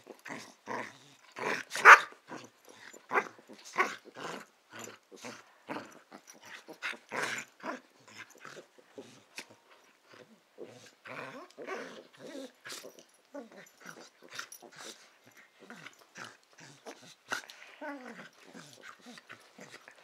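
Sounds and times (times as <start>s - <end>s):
dogs growling and snarling: 0.0s - 20.0s.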